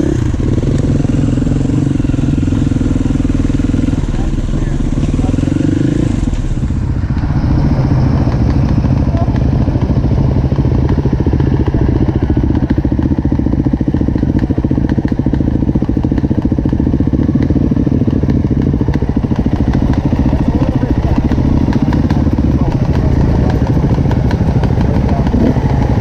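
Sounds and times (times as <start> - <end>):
dirt bike engines idling: 0.0 - 26.0.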